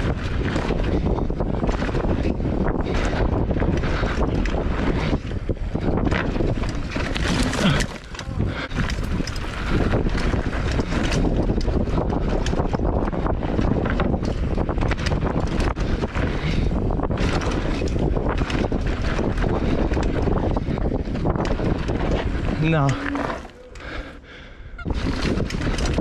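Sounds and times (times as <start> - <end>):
tyres on gravel: 0.0 - 24.2
bike rattling and clicking: 0.0 - 26.0
wind buffeting microphone: 0.0 - 26.0.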